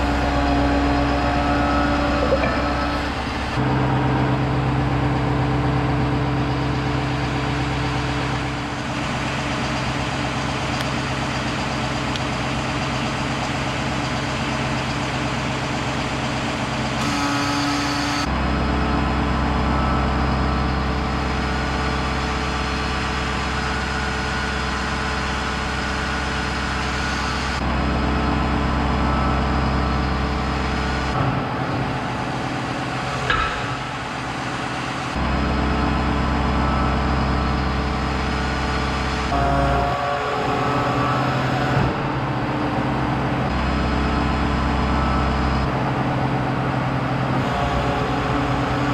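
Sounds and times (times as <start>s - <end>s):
hydraulic crane hum: 0.0s - 48.9s
truck engine running: 0.0s - 48.9s.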